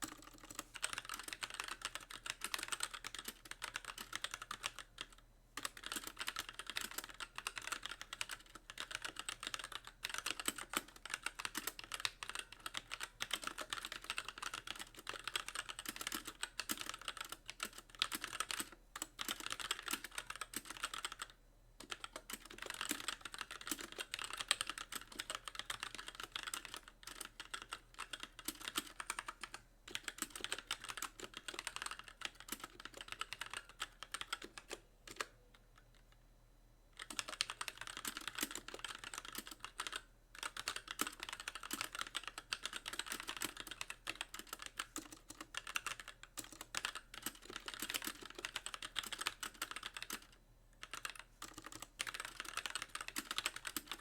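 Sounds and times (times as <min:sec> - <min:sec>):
mechanical keyboard typing: 0:00.0 - 0:36.1, 0:37.0 - 0:54.0.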